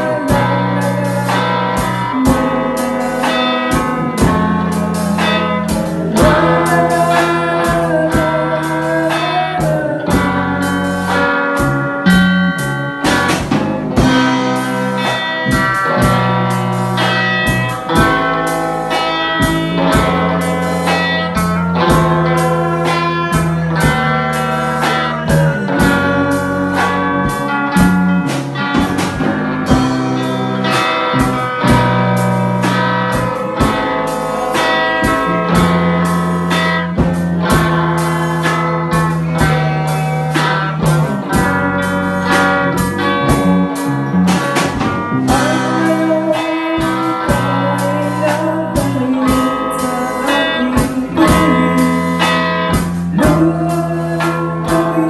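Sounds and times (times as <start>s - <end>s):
bass line: 0.0s - 55.0s
drum kit beat: 0.0s - 55.0s
electric guitar: 0.0s - 55.0s.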